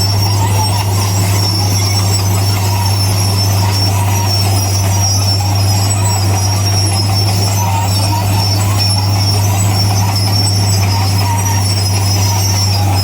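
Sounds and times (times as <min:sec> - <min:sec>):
bulldozer diesel engine drone: 0:00.0 - 0:13.0
steel tracks squealing: 0:00.0 - 0:13.0.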